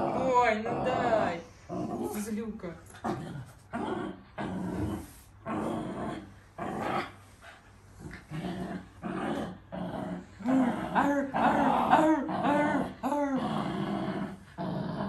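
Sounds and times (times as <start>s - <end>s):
dog growling in play: 0.0s - 15.0s.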